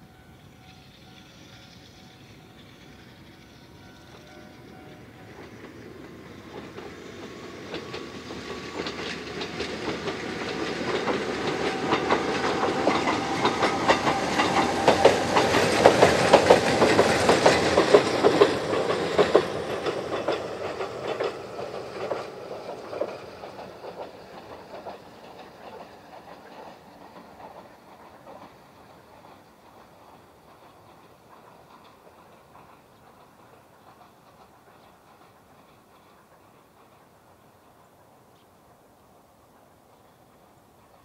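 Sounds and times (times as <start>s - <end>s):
train wheels clacking over joints: 0.0s - 41.0s.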